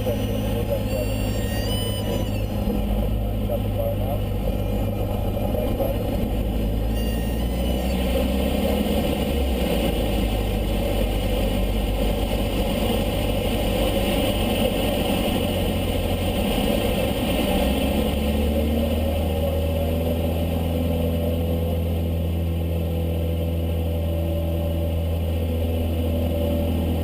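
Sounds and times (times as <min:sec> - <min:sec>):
airplane engine and propeller droning: 0:00.0 - 0:27.0.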